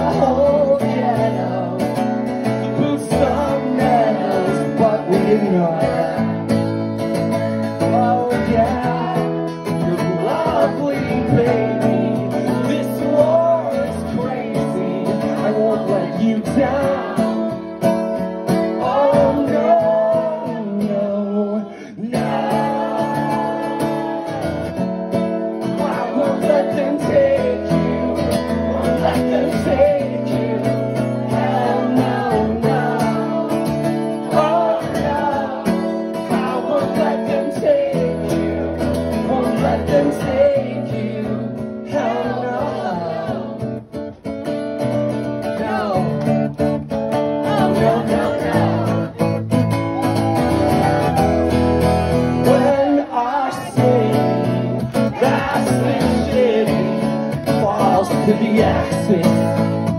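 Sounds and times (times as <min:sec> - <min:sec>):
man singing: 0:00.0 - 0:44.0, 0:45.2 - 0:49.6, 0:50.2 - 0:59.9
strummed acoustic guitar: 0:00.0 - 0:59.9.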